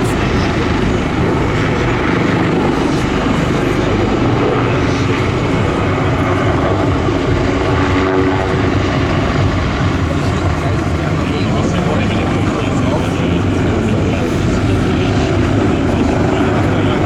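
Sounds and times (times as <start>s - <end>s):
helicopter rotor beat and engine drone: 0.0s - 17.0s.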